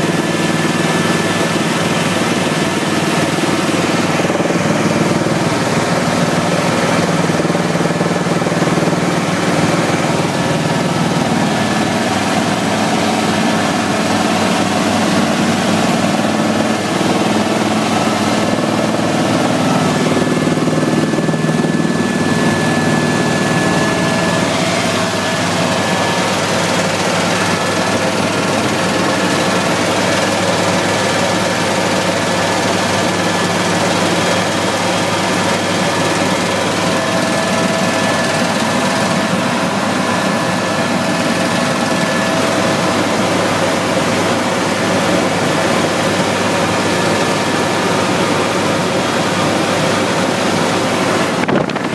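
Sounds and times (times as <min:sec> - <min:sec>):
helicopter engine and rotor drone: 0:00.0 - 0:51.9.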